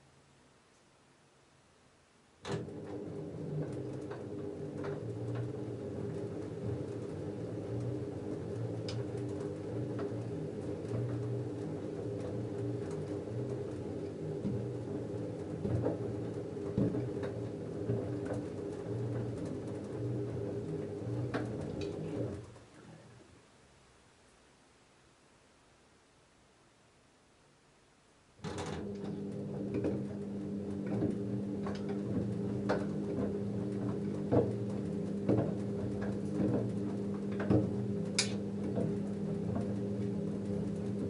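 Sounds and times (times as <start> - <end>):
washing machine motor hum: 2.4 - 23.2, 28.4 - 41.0.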